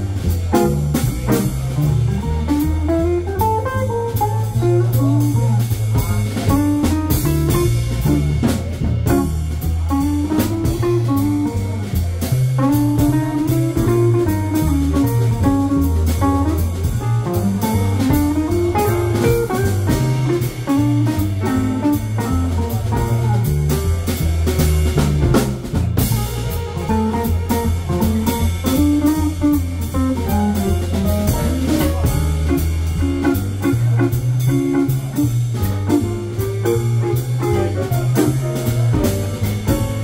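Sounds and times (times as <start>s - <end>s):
electric guitar melody: 0.0s - 24.3s, 25.2s - 40.0s
double bass: 0.0s - 40.0s
drum kit with ride cymbal: 0.0s - 40.0s
piano: 0.0s - 40.0s.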